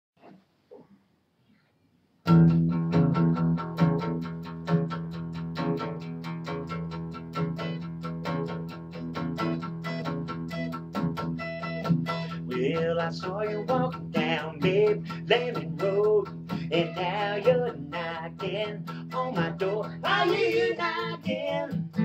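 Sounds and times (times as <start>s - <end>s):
acoustic guitars playing: 2.3s - 22.0s.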